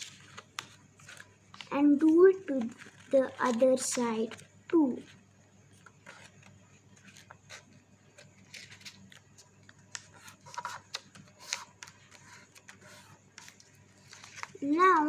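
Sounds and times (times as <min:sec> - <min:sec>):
paper being folded by hand: 0:00.0 - 0:05.2, 0:05.8 - 0:15.0.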